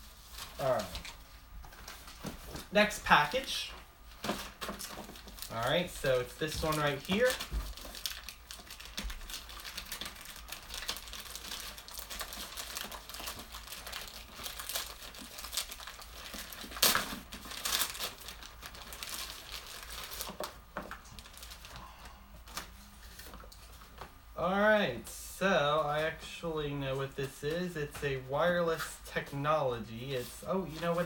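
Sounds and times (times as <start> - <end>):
plastic bag crinkling and tearing: 0.0 - 24.0, 29.9 - 31.0.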